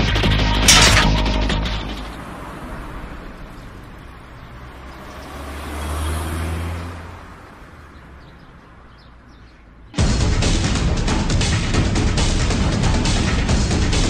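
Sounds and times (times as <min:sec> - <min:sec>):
passing motor vehicle rumble: 0:00.0 - 0:14.0.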